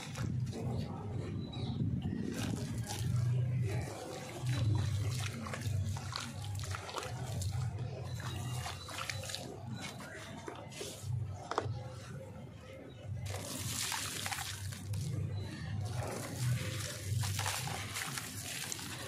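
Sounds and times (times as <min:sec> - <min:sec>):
slurry sloshing and gurgling: 0:00.0 - 0:12.4, 0:13.0 - 0:19.0.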